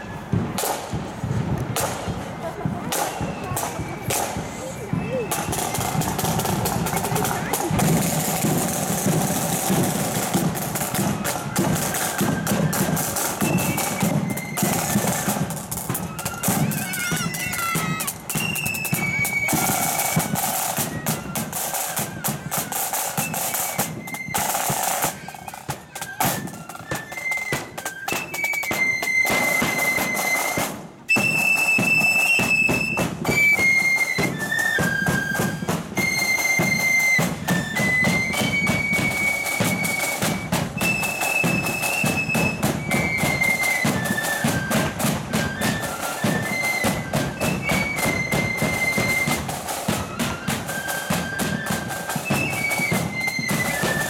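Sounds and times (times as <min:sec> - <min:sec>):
flutes playing a tune: 0:00.0 - 0:00.8, 0:01.7 - 0:54.0
side drums: 0:00.0 - 0:54.0.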